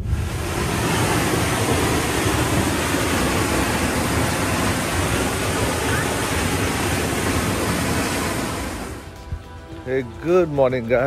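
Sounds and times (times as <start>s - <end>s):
waterfall rushing: 0.0s - 10.2s.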